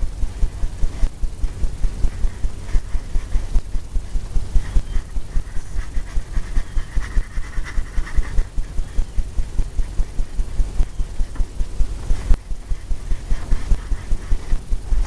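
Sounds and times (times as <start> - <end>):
paintbrush scrubbing canvas: 0.0 - 15.0.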